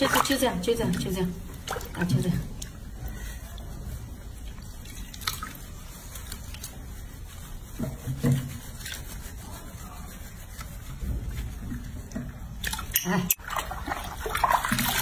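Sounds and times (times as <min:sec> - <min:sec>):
hands rubbing wet fur: 0:00.0 - 0:12.9
water splashing in sink: 0:00.0 - 0:15.0.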